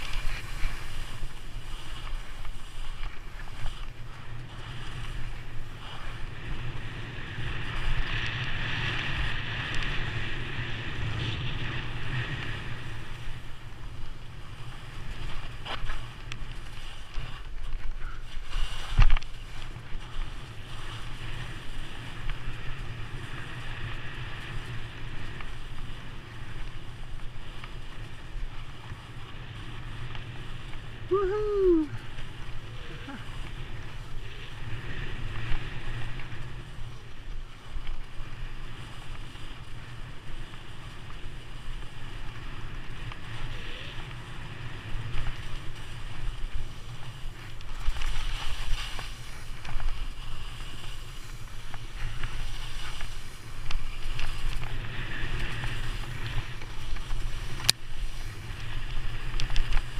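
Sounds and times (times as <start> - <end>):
skis scraping over snow: 0.0 - 59.9
wind buffeting microphone: 0.0 - 59.9.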